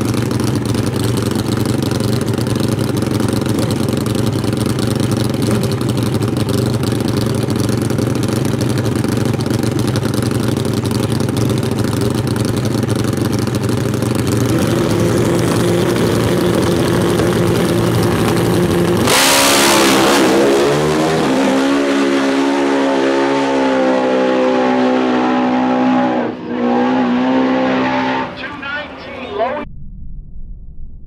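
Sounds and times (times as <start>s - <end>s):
motorcycle engines revving: 0.0s - 29.6s.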